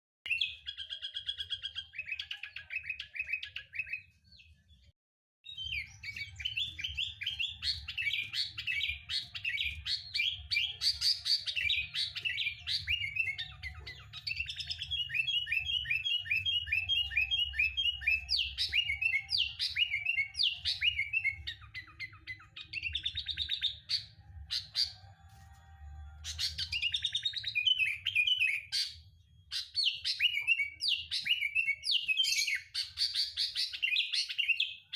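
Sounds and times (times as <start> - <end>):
bird singing chirps and whistles: 0.3 - 4.8, 5.4 - 25.1, 26.2 - 34.9.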